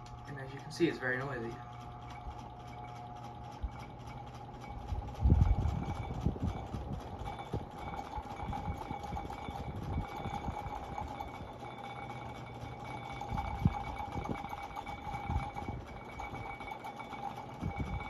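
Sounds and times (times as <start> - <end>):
ceiling fan running: 0.0 - 18.0
fan knocking and rattling: 0.0 - 18.0.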